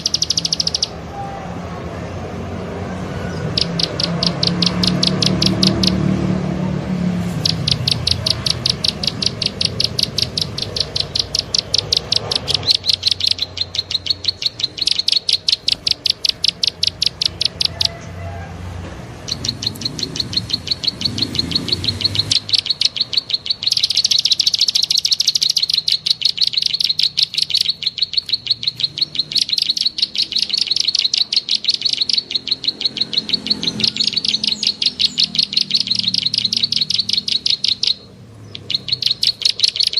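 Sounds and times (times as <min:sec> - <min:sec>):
bird rapid clicking chirps: 0:00.0 - 0:01.0, 0:03.3 - 0:06.5, 0:07.2 - 0:18.2, 0:19.2 - 0:39.9.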